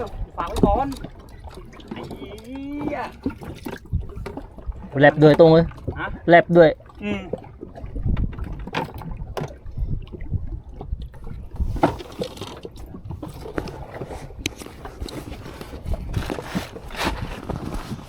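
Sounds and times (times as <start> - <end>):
boat engine rumble: 0.0 - 18.0
water splashing against hull: 0.0 - 18.0.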